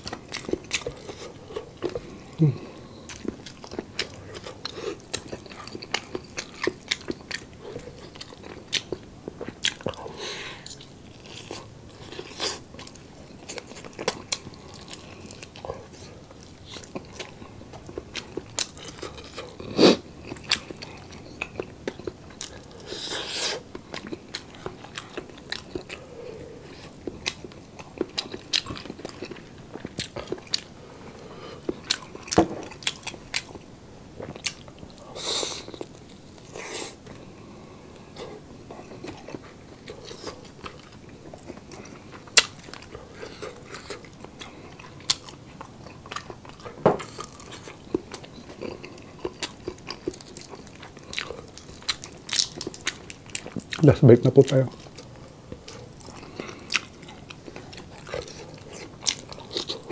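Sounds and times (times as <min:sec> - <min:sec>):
close chewing and biting: 0:00.0 - 0:59.9.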